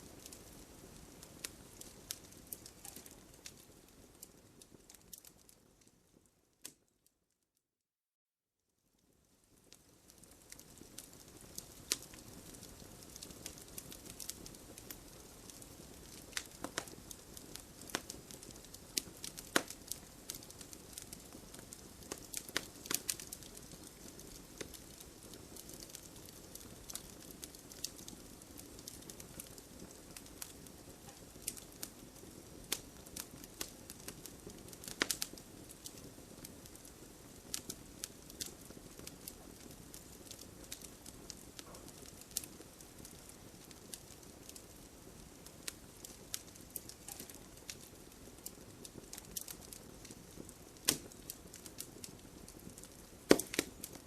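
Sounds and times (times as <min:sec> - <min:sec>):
campfire crackling: 0:00.0 - 0:06.9, 0:09.0 - 0:54.0.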